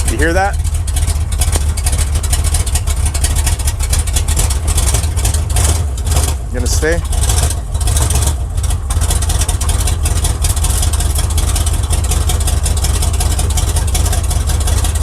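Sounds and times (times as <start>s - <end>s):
pickup engine idling with misfire: 0.0s - 15.0s.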